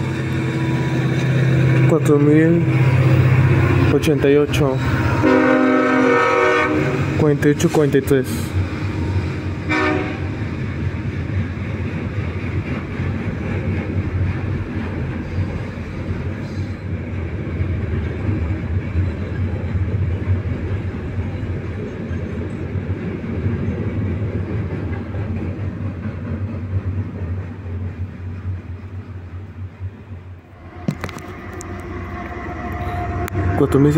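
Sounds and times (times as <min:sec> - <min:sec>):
freight train wheels rumbling on rails: 0:00.0 - 0:33.9.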